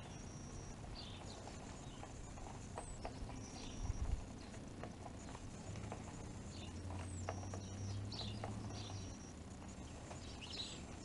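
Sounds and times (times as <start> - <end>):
birds pecking on metal: 0.0 - 11.0.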